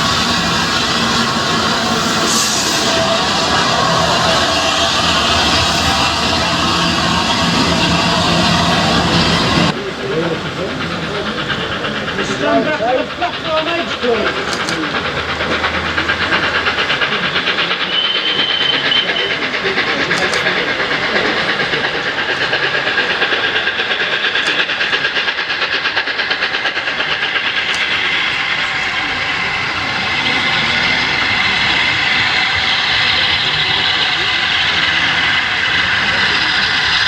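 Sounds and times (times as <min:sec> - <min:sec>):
steam locomotive running: 0:00.0 - 0:37.0.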